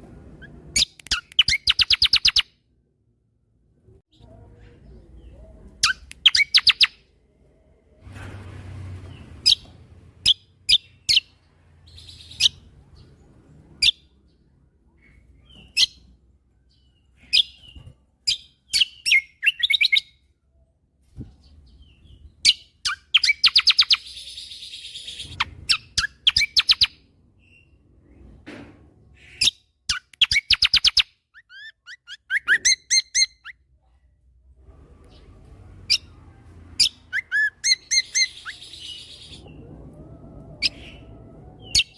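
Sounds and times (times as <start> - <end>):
songbird chirping and trilling: 0.4 - 2.6, 4.0 - 7.6, 8.9 - 28.4, 29.1 - 34.0, 34.7 - 41.9.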